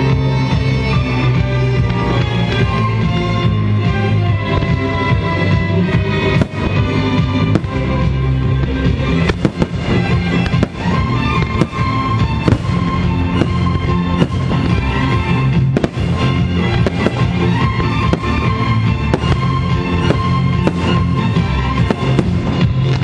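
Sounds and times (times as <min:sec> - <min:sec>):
loud music: 0:00.0 - 0:23.0
fireworks bangs: 0:04.4 - 0:23.0.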